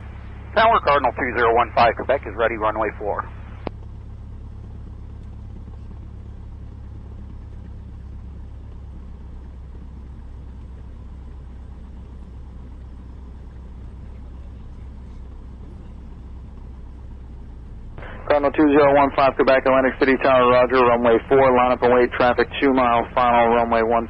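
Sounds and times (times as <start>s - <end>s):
small plane engine droning: 0.0s - 24.0s.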